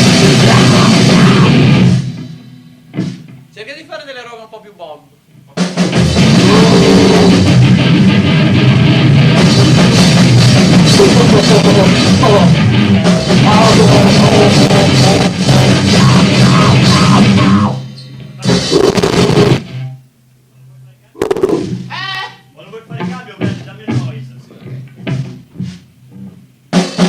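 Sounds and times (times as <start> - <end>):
distorted noise-punk band: 0.0 - 3.6, 5.4 - 20.0, 21.2 - 27.0
pounding drum kit: 0.0 - 3.8, 5.5 - 19.8, 21.2 - 22.2, 22.9 - 27.0.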